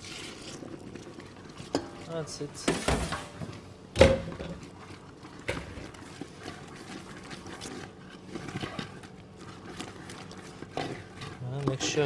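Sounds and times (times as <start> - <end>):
spatula stirring caramel in pot: 0.0 - 3.6, 4.3 - 12.0.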